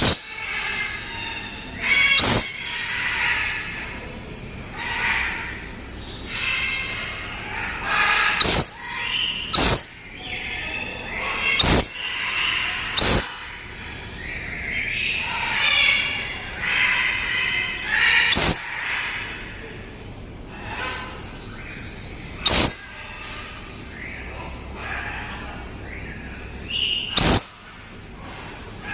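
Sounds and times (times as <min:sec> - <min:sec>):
lories chattering and squawking: 0:00.0 - 0:28.9.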